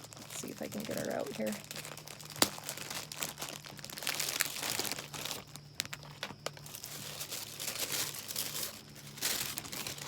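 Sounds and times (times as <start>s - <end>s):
packaging crinkling and rustling: 0.0s - 10.0s
sharp plastic crackles: 0.0s - 10.0s.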